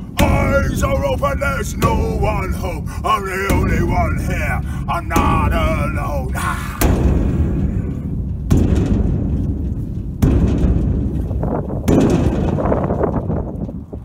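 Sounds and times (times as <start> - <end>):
metal tank struck like drum: 0.0 - 13.8.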